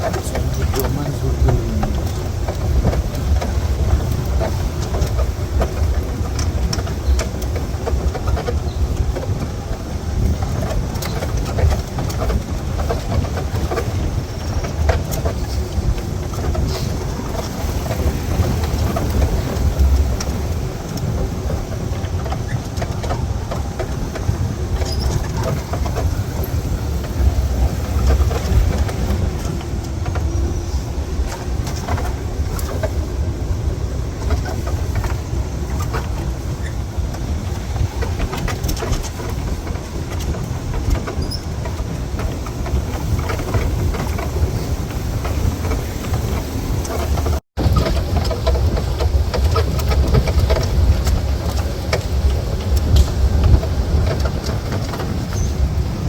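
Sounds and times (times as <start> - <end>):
rattles and knocks: 0.0 - 56.0
vehicle rumbling on rough track: 0.0 - 56.0.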